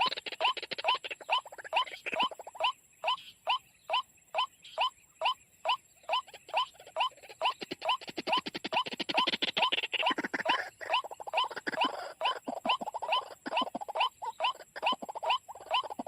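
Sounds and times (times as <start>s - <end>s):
bird rattling call: 0.0s - 16.0s.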